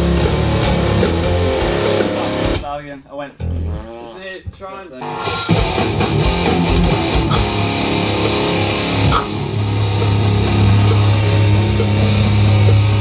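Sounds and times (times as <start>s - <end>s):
distorted hardcore music: 0.0s - 2.7s, 4.9s - 13.0s.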